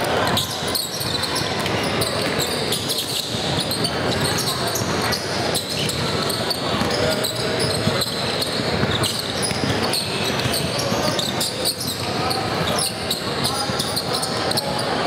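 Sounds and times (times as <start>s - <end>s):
chatter and calls of people: 0.0s - 15.0s
basketball bouncing on wooden floor: 0.2s - 14.9s.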